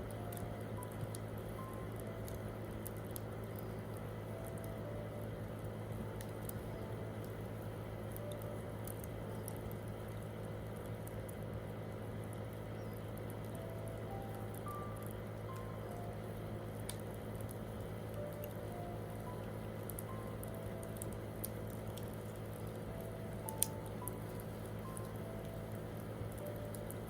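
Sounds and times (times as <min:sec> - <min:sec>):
soft piano notes: 0:00.0 - 0:10.1, 0:12.7 - 0:27.0
campfire crackling and popping: 0:00.0 - 0:27.0
steady low hum: 0:00.0 - 0:27.0.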